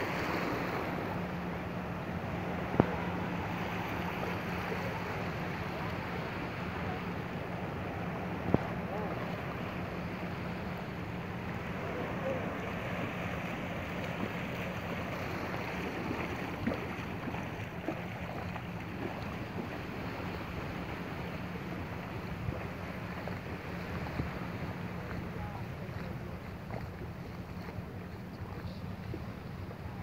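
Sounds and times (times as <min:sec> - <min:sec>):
legs wading and splashing: 0:00.0 - 0:30.0
waves lapping: 0:00.0 - 0:30.0.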